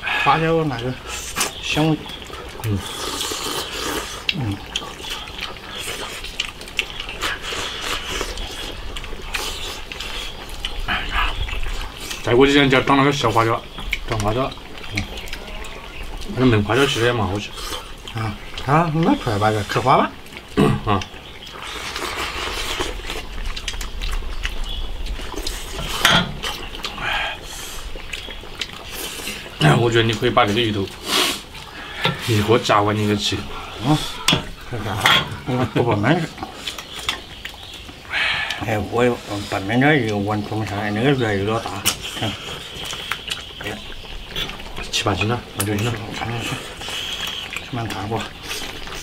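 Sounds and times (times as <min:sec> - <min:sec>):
stew bubbling in a wok: 0:00.0 - 0:49.0
soup slurping: 0:00.9 - 0:49.0.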